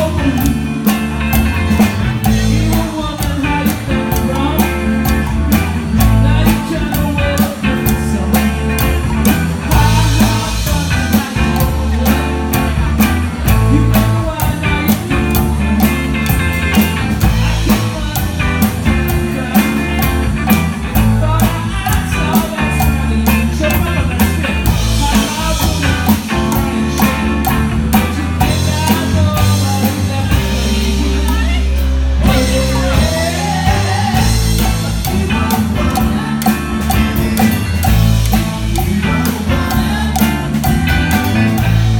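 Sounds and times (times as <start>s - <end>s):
drum kit beat: 0.0s - 41.9s
rock music: 0.0s - 41.9s.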